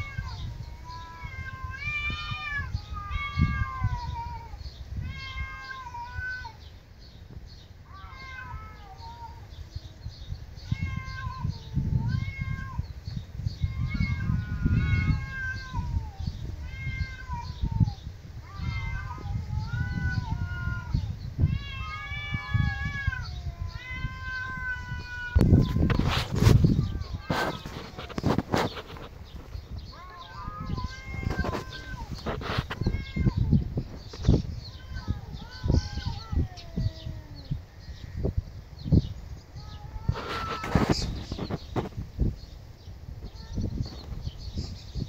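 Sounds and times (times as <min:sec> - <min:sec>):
cats meowing: 0:00.0 - 0:06.8, 0:07.8 - 0:41.9, 0:43.1 - 0:44.6.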